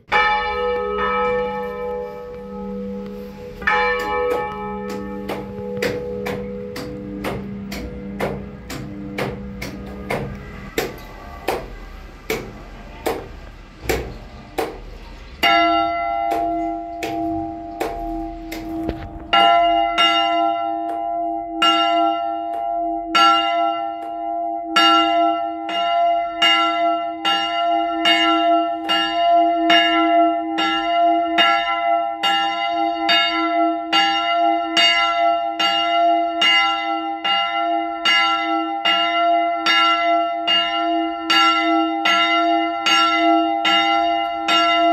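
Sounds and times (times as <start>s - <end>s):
church bell ringing: 0.0s - 44.9s.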